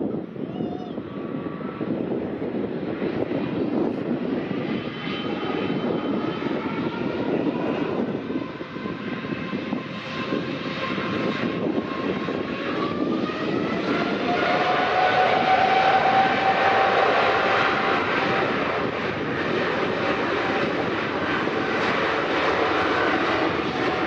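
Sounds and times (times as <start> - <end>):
jet engines roaring: 0.0 - 24.0
engine whine: 1.0 - 24.0.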